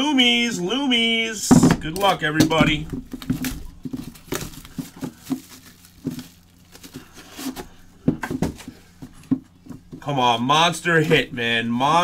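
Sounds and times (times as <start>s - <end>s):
plastic shrink-wrap crinkling: 1.8s - 12.0s.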